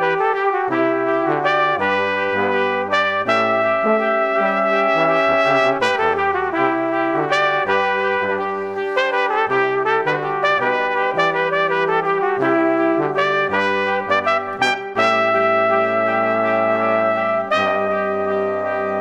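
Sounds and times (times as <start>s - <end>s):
instrumental music: 0.0s - 19.0s.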